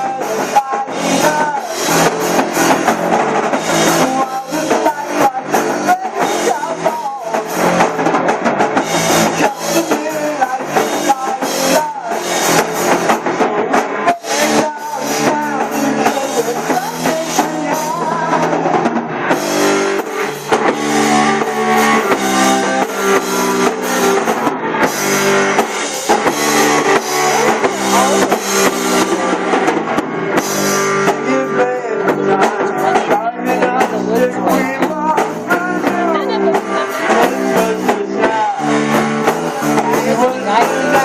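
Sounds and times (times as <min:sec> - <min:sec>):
drum kit: 0:00.0 - 0:41.0
electric guitar chords: 0:00.0 - 0:41.0.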